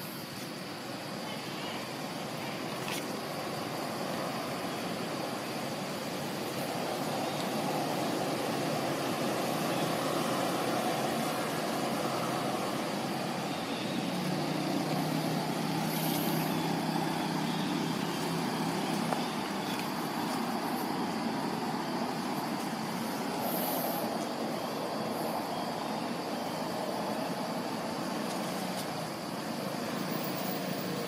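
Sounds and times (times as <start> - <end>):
passing vehicles: 0.0 - 31.0
engine hum: 1.8 - 31.0.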